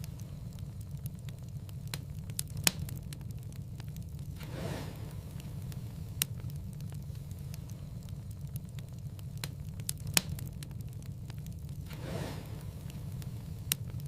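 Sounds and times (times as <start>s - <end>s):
fire popping and snapping: 0.0s - 14.0s
fire rumbling: 0.0s - 14.0s
soft hiss of flame: 0.0s - 14.0s.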